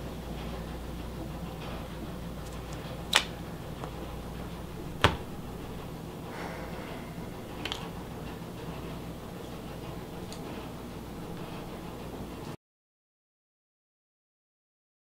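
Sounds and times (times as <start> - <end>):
low room hum: 0.0 - 12.6.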